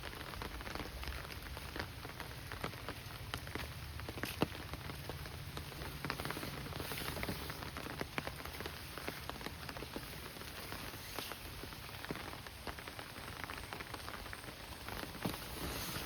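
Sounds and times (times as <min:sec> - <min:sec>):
raindrops tapping close by: 0:00.0 - 0:16.0
steady rain: 0:00.0 - 0:16.0.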